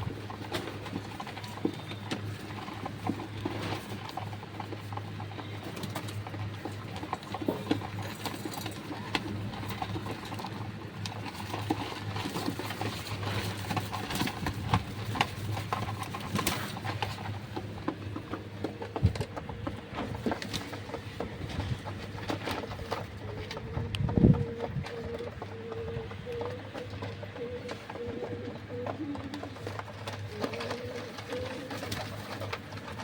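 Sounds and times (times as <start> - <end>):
pigeon feet pattering: 0.0 - 33.0
pigeon wings flapping: 0.0 - 33.0
pigeons cooing: 0.0 - 33.0
pigeons pecking: 0.0 - 33.0.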